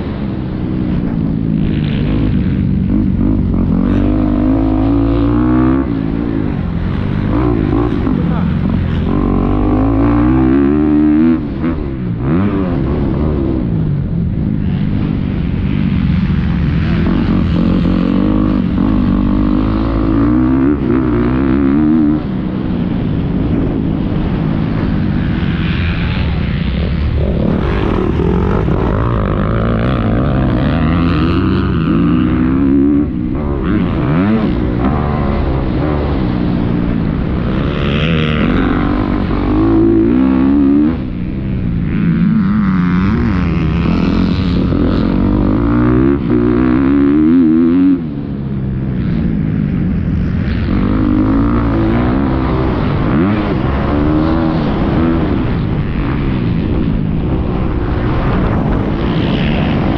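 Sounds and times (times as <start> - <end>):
motocross bike engine revving: 0.0 - 13.7, 14.6 - 48.4, 49.0 - 59.9.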